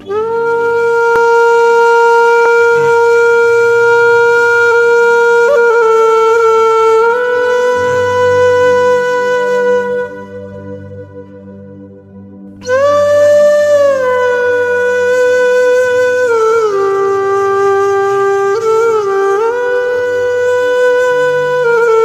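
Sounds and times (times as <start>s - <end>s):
wind instrument long held note: 0.0s - 22.0s.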